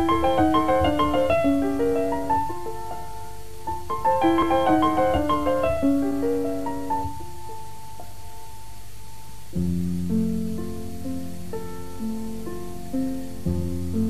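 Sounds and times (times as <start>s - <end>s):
piano playing: 0.0s - 14.0s.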